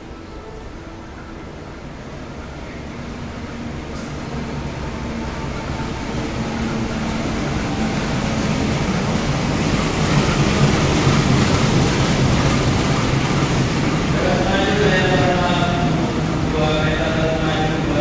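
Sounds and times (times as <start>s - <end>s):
locomotive engine droning: 0.0s - 18.0s.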